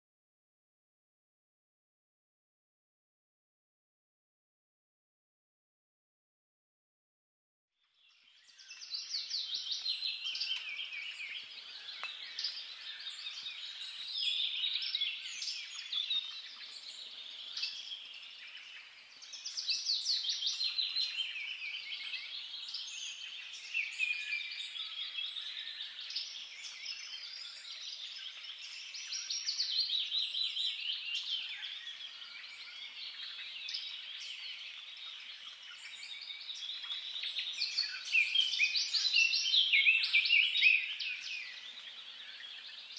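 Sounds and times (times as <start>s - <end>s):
songbirds chorus of trills: 7.8s - 42.9s.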